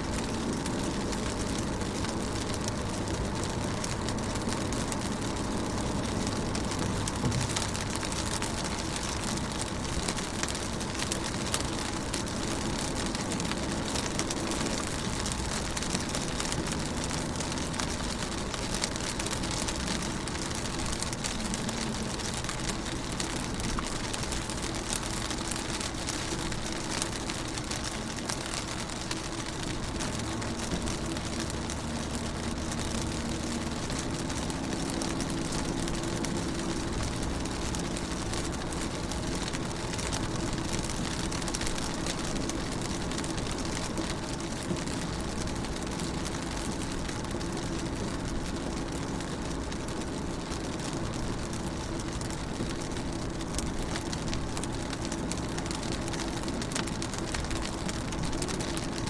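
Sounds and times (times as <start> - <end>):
low steady hum: 0.0 - 59.0
rain on car windows: 0.0 - 59.0.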